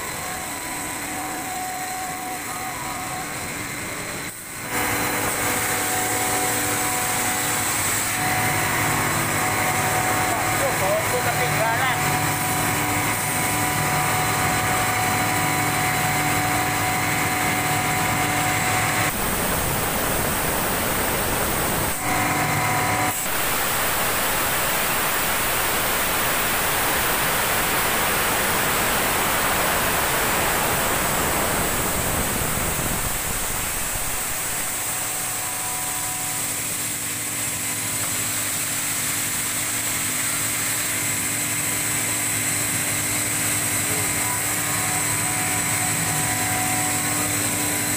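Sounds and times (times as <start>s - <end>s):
exhaust fan motor hum: 0.0s - 47.9s.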